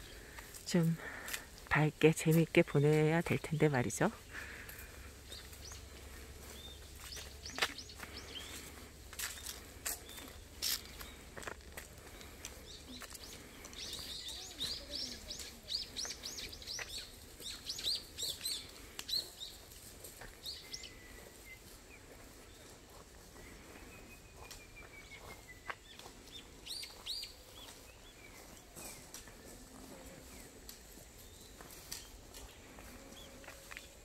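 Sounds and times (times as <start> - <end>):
wild birds chirping: 0.0 - 34.0.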